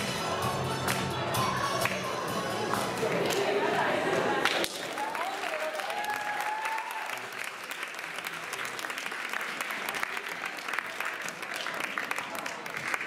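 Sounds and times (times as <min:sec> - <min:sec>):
crowd clapping: 0:01.8 - 0:13.0.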